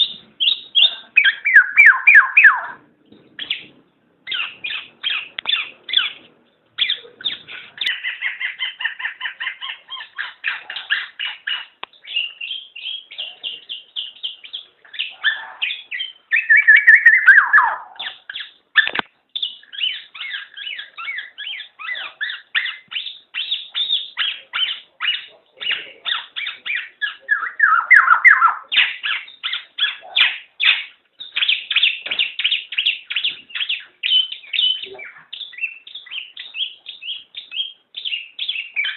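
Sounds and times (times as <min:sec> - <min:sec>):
oriole calling: 0:00.0 - 0:38.9.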